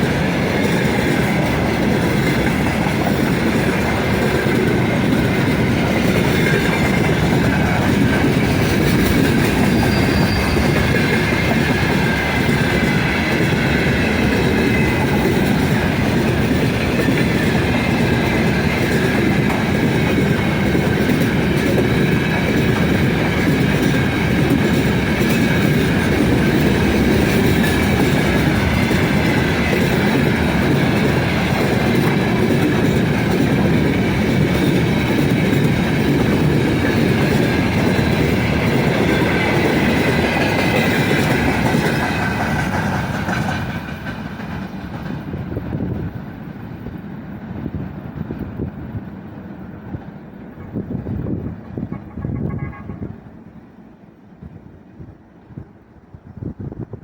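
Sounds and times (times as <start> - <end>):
rail-joint clatter: 0.0 - 53.2
freight train wheels rumbling: 0.0 - 57.0.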